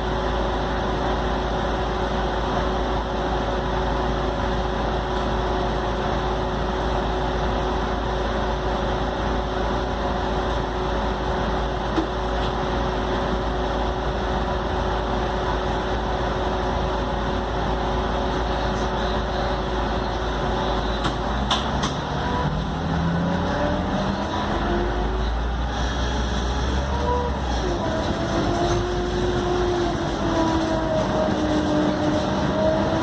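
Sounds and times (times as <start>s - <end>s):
bus engine hum: 0.0s - 33.0s.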